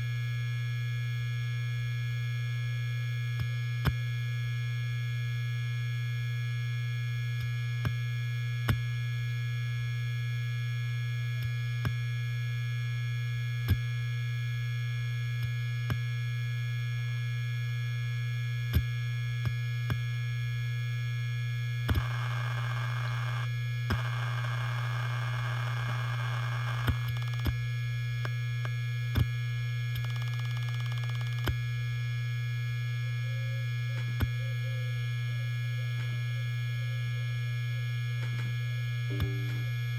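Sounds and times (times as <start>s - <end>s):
hard disk drive humming and whining: 0.0s - 39.9s.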